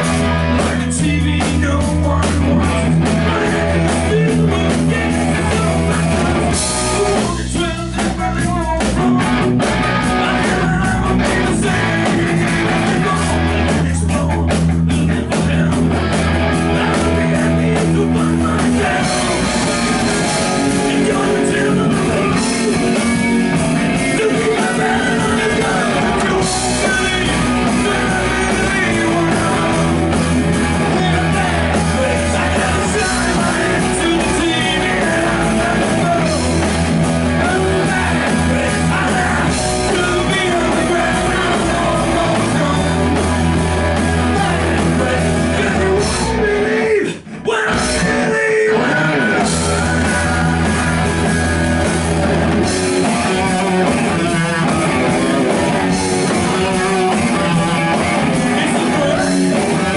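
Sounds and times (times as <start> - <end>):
bass guitar: 0.0 - 59.9
drums: 0.0 - 59.9
electric guitars: 0.0 - 59.9
man singing lead: 0.0 - 59.9.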